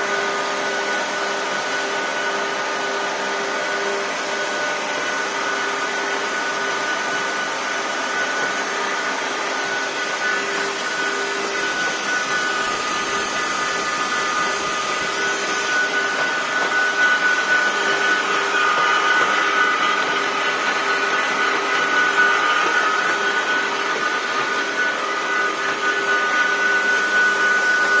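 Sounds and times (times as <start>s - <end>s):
edgebanding machine motors whirring: 2.3s - 28.0s.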